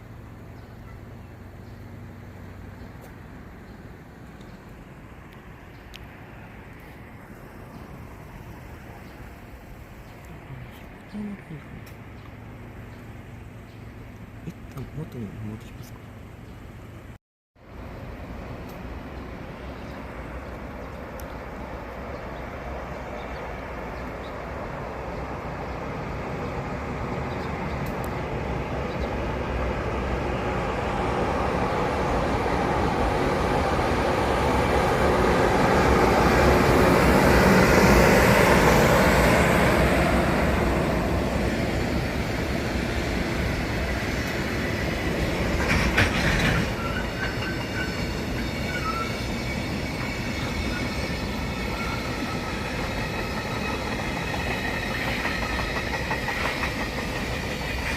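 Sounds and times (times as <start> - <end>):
train running on rails: 0.0 - 57.9.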